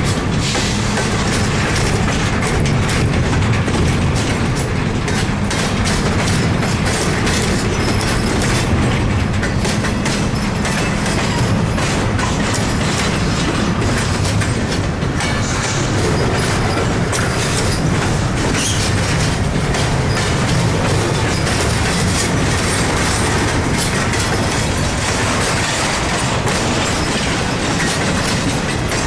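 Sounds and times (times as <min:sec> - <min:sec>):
freight train rumbling past: 0:00.0 - 0:29.0
wheels clicking over rail joints: 0:00.0 - 0:29.0.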